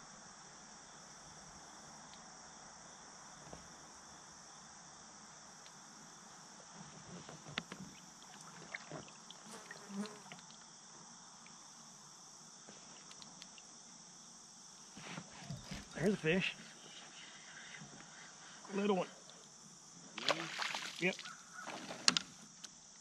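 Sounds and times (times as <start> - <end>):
insects chorus: 0.0 - 23.0.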